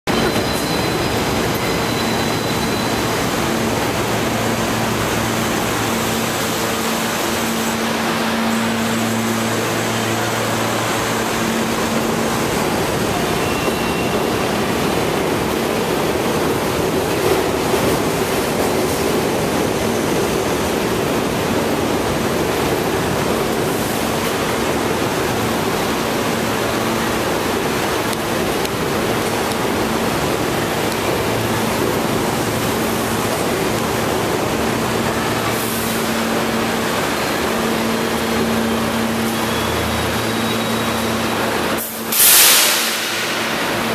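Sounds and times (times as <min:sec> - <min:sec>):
subway train wheels on rails: 0:00.0 - 0:43.9.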